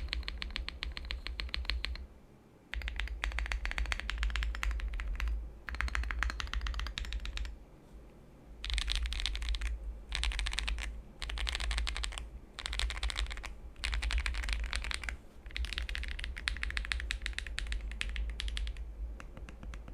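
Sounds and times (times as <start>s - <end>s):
fast typing on mechanical keyboard: 0.0s - 2.0s, 2.7s - 7.6s, 8.6s - 19.9s.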